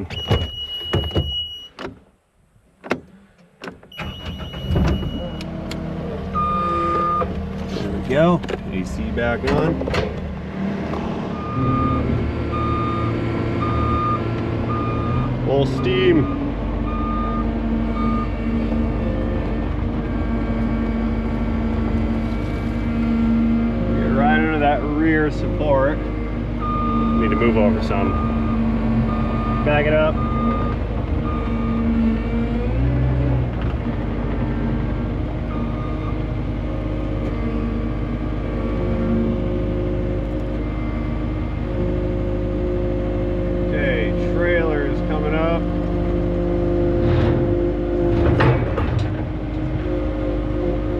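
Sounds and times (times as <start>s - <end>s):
diesel engine running at high throttle: 3.9s - 50.9s.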